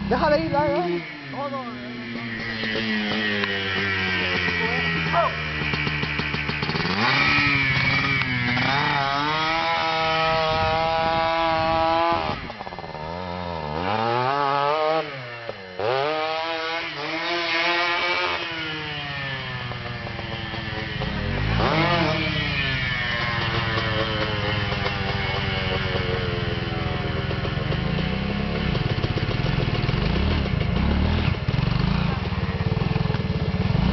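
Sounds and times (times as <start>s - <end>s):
small motorcycle engine revving: 0.0s - 33.9s.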